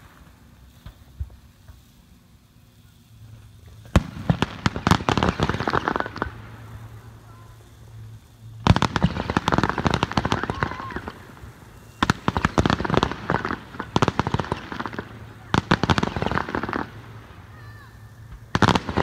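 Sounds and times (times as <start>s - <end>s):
crackling firework pops: 0.0s - 19.0s
firework bangs: 0.0s - 19.0s.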